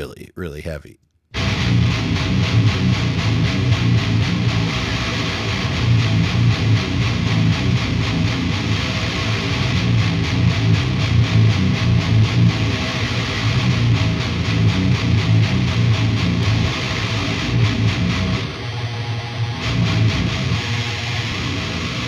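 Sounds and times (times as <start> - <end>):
distorted electric guitar riff: 1.3 - 22.0.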